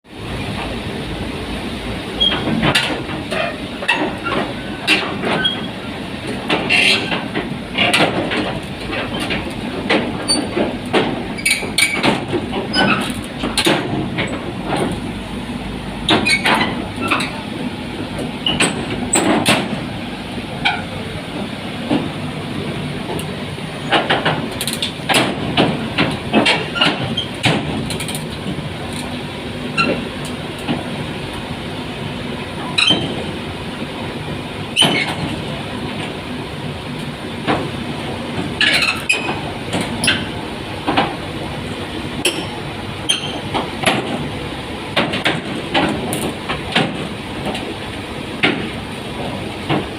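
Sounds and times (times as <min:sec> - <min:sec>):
excavator engine drone: 0:00.1 - 0:49.9.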